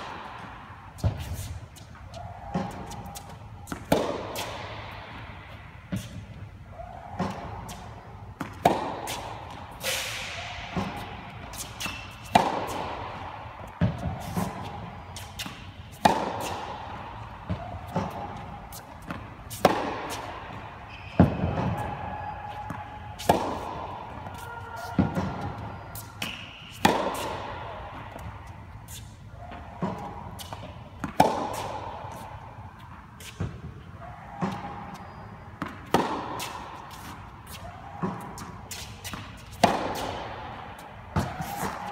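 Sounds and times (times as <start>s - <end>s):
tennis racket hitting ball: 0.0s - 6.4s, 7.0s - 33.7s, 34.3s - 41.9s
tennis ball bouncing: 0.0s - 41.9s.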